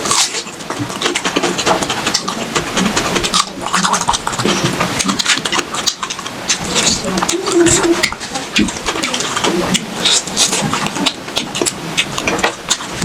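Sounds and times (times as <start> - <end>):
person chewing with wet smacking: 0.0 - 13.0.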